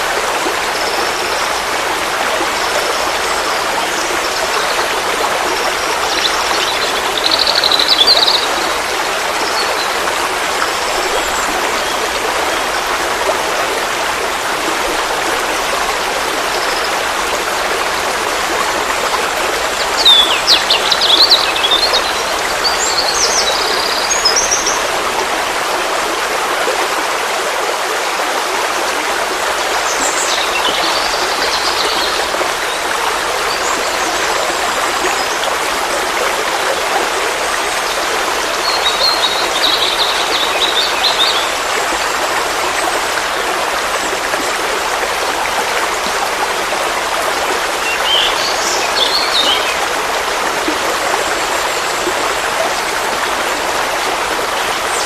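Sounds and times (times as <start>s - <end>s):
forest stream flowing: 0.0s - 55.0s.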